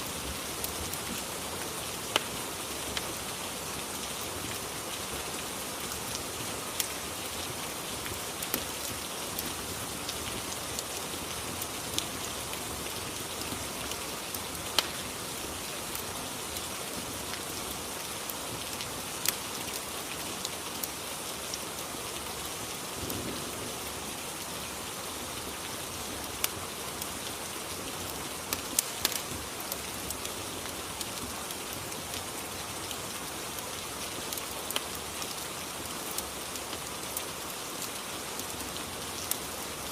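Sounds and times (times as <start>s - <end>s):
falling rain hiss: 0.0s - 39.9s.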